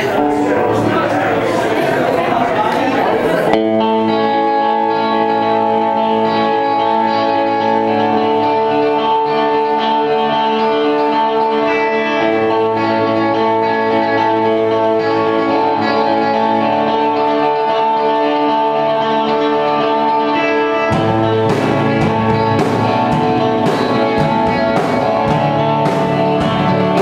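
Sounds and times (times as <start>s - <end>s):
electric guitars ringing chords: 0.0s - 27.0s.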